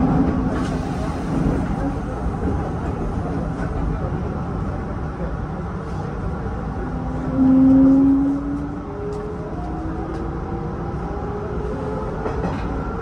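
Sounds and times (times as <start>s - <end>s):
electric train rumbling: 0.0s - 13.0s
rising train whine: 0.0s - 13.0s.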